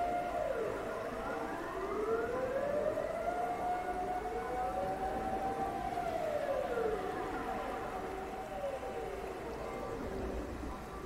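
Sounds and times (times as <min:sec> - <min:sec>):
second siren: 0:00.0 - 0:10.4.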